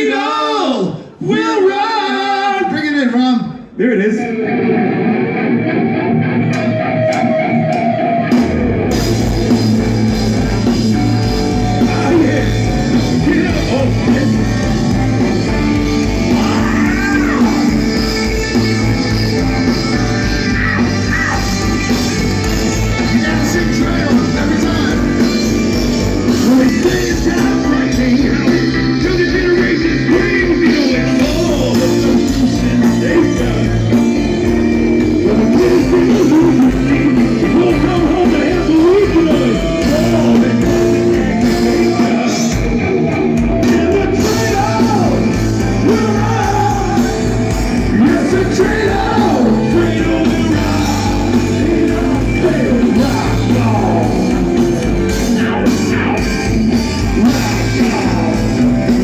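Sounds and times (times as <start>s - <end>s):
drums: 0.0s - 59.0s
electric guitar: 3.4s - 59.0s
person singing: 9.5s - 59.0s.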